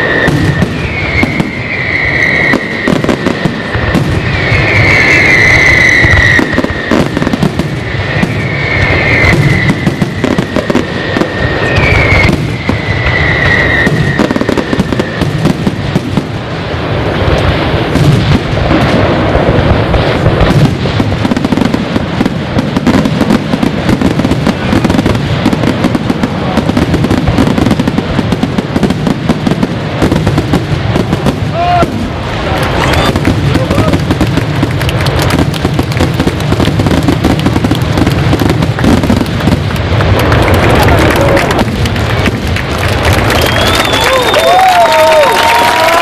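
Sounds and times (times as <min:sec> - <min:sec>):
fireworks bangs and crackling: 0:00.0 - 0:46.0
fireworks whistling: 0:00.0 - 0:46.0.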